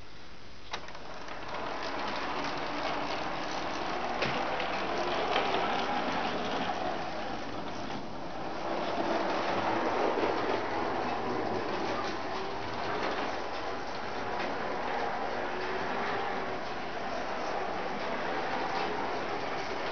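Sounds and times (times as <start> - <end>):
small wheels rattling on rail: 0.7 - 19.9.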